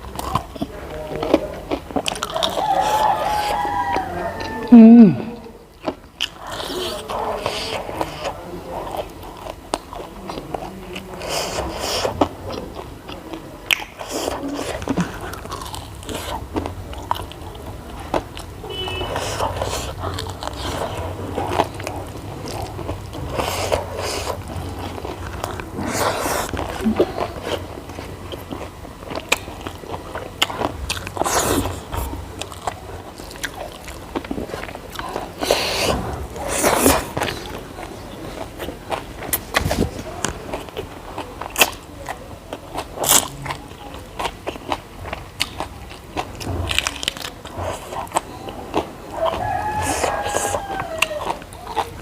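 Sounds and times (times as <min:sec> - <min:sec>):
person chewing crunchy food: 0:00.0 - 0:52.0.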